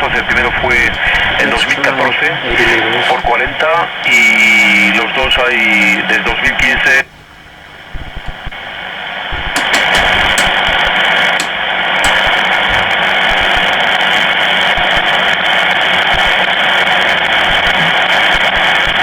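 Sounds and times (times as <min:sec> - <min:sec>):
radio crackles: 0:00.0 - 0:19.0
radio static hiss: 0:00.0 - 0:19.0.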